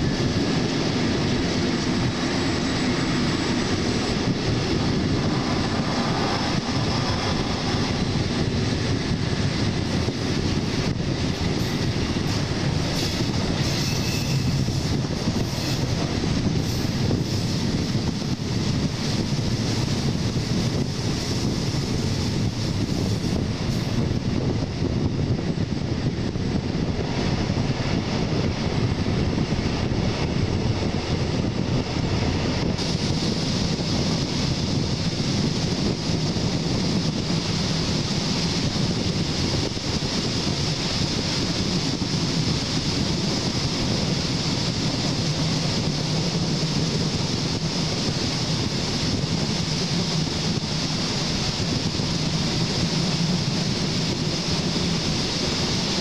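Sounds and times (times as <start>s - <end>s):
train rumbling on rails: 0.0s - 56.0s
wind buffeting microphone: 0.0s - 56.0s.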